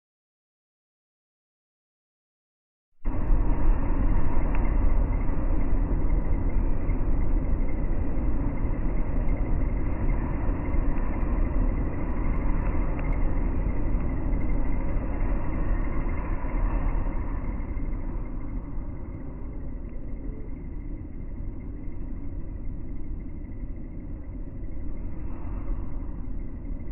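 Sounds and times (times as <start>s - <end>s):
slowed train rumble: 3.0s - 26.9s.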